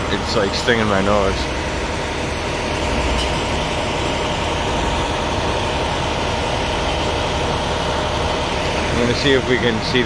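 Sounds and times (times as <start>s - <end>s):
large vehicle engine idling: 0.0s - 10.0s.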